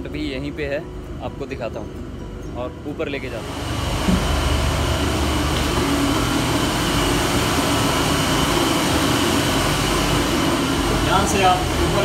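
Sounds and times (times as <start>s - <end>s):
air conditioning machinery drone: 0.0s - 12.0s
thin high whine: 0.0s - 12.0s.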